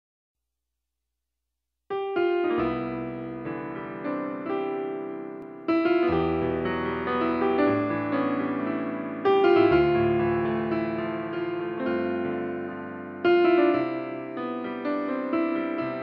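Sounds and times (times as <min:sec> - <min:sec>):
piano music: 0:01.9 - 0:16.0.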